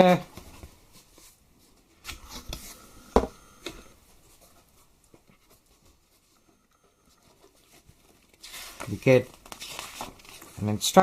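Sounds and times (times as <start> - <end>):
faint rustling of contents: 0.0 - 11.0.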